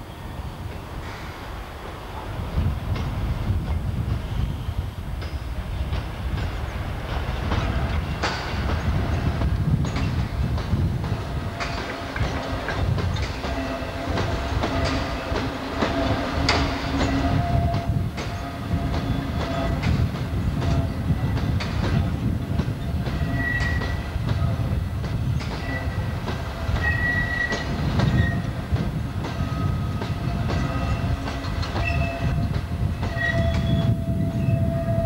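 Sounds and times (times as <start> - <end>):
train wagons rumbling: 0.0 - 35.0.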